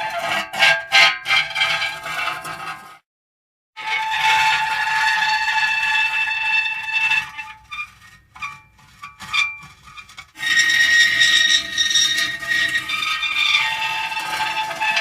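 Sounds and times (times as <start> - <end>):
metal creaking and squealing: 0.0 - 3.0, 3.8 - 15.0.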